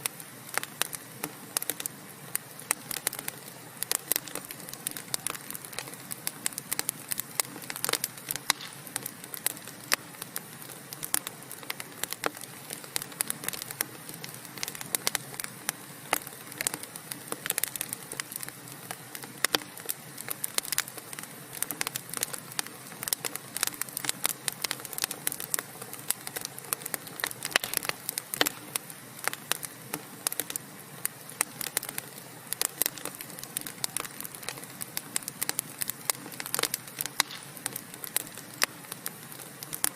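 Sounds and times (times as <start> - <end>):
logs crackling and popping: 0.0 - 39.9
wood fire hissing: 0.0 - 39.9.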